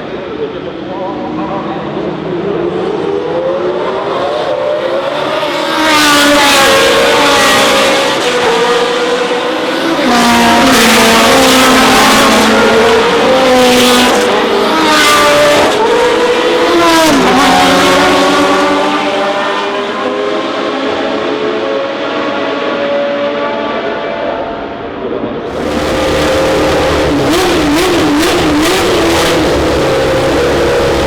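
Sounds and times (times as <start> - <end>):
racing car engine at full throttle: 0.0 - 31.0.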